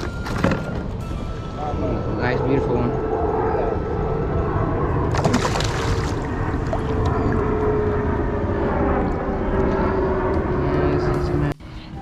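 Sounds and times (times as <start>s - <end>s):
low rumble: 0.9s - 11.6s.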